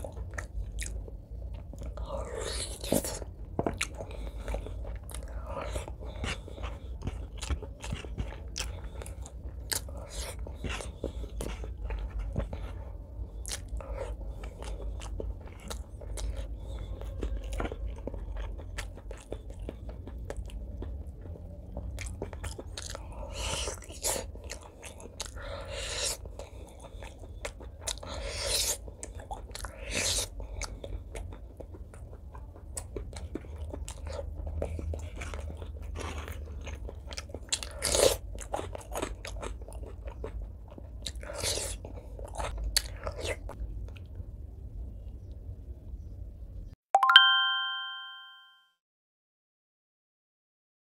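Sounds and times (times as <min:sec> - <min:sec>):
wet chewing: 0:00.0 - 0:44.2.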